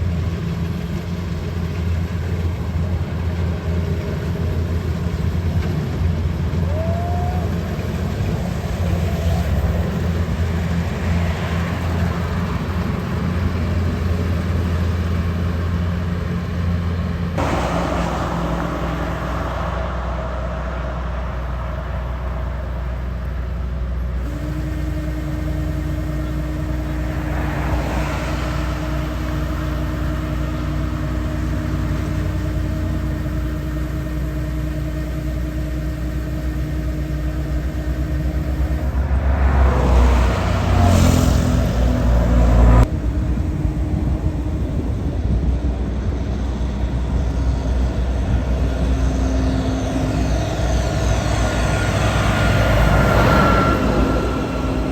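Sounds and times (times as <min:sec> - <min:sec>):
farm machine engine running: 0:00.0 - 0:54.9.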